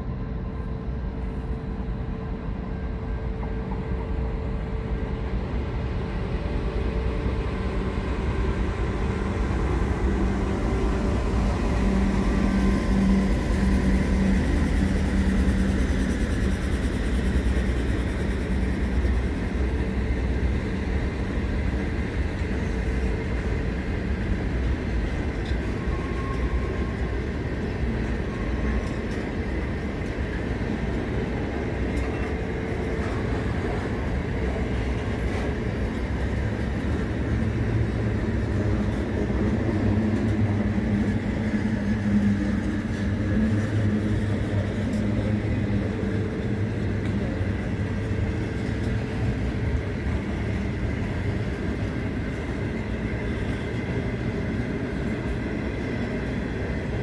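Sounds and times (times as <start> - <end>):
locomotive engine hum: 0.0 - 57.0
train rolling rumble: 0.0 - 57.0.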